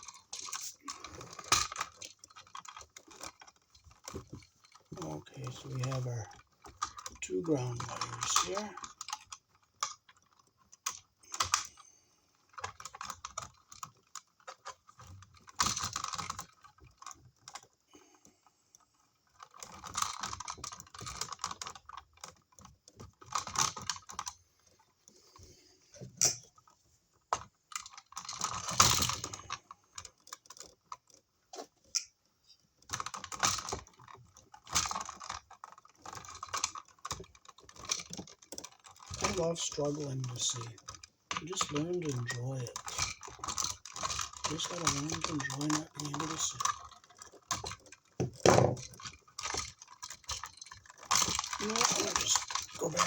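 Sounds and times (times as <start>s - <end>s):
wires clicking and scraping: 0.0s - 53.0s.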